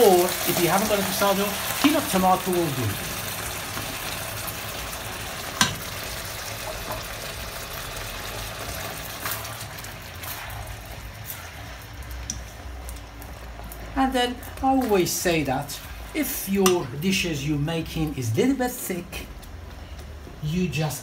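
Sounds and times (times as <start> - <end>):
sizzling in a hot wok: 0.0 - 17.5.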